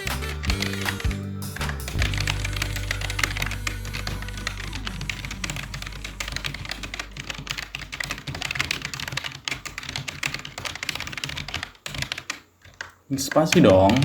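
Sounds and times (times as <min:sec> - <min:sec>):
fast typing on keyboard: 0:00.0 - 0:14.0.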